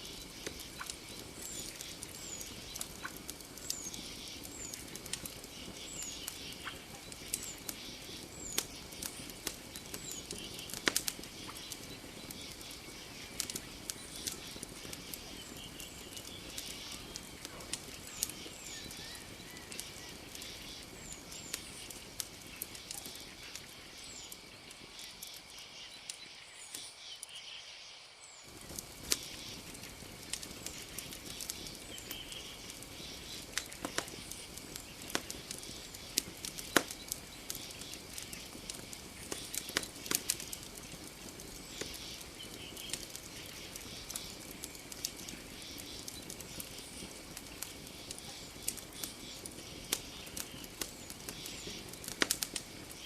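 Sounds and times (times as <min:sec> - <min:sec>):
campfire crackling and popping: 0:00.0 - 0:27.0, 0:28.4 - 0:53.0
steady low hiss: 0:00.0 - 0:53.0.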